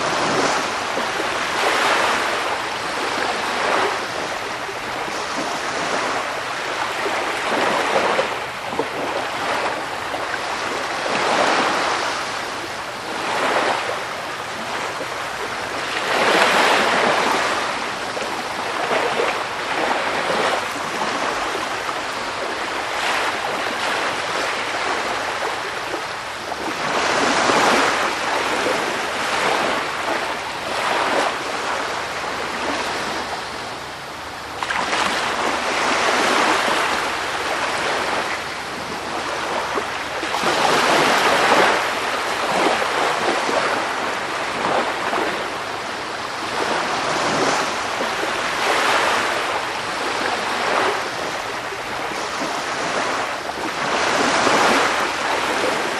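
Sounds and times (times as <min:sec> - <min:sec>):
waves breaking: 0:00.0 - 0:55.9.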